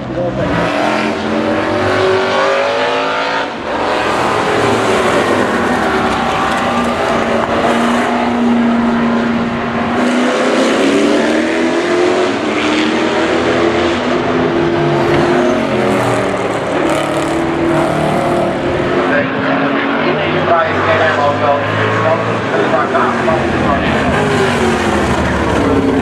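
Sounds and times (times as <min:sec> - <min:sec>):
race car engines: 0:00.0 - 0:26.0.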